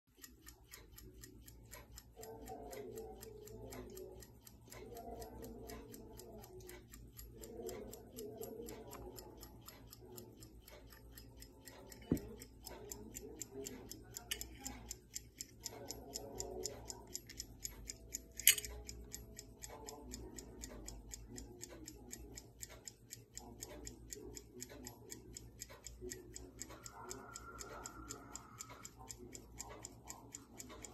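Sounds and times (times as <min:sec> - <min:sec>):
pocket watch ticking: 0:00.1 - 0:30.9.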